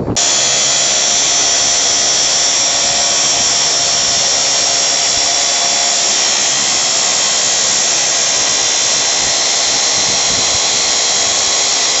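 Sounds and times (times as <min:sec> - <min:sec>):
faint high whine: 0:00.0 - 0:12.0
steady loud hiss: 0:00.0 - 0:12.0.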